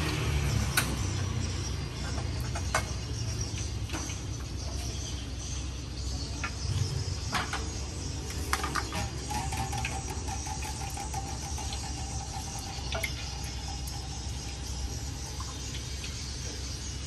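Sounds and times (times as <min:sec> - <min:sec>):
cooking hiss and hum: 0:00.0 - 0:17.0.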